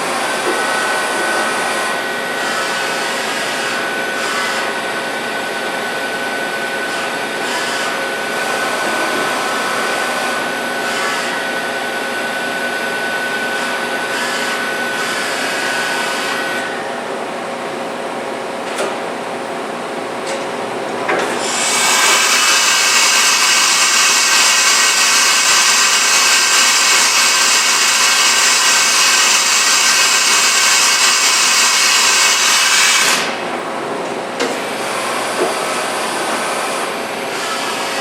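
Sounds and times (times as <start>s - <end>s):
hissing whirring machine noise: 0.0s - 38.0s
machining center whine: 0.0s - 38.0s.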